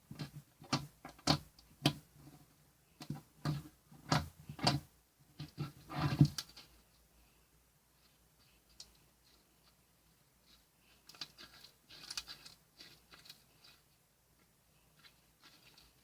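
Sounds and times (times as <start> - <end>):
faint clicks and rustles: 0.0 - 7.1, 7.9 - 16.0.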